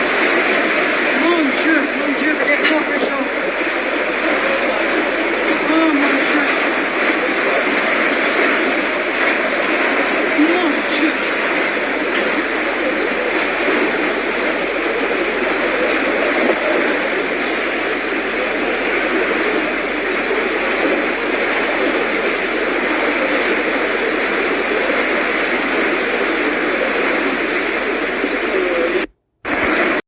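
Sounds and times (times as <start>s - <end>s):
static-like hiss: 0.0s - 30.0s.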